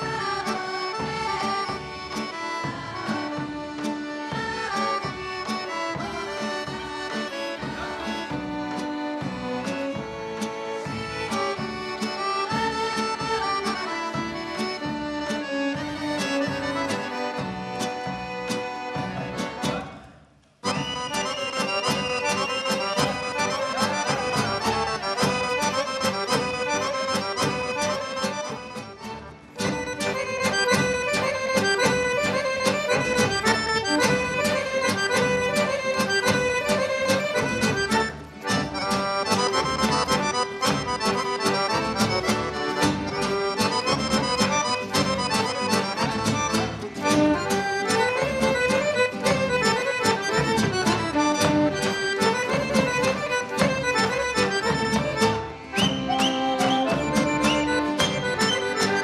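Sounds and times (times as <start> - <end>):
accordion-led folk dance music: 0.0 - 59.0.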